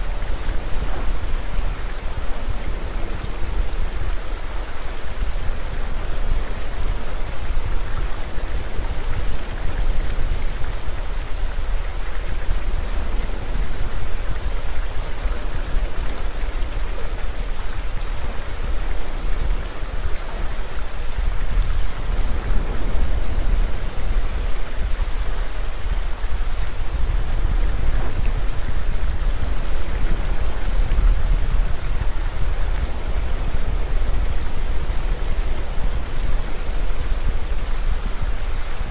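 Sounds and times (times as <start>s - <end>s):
waterfall pouring into pool: 0.0s - 38.9s.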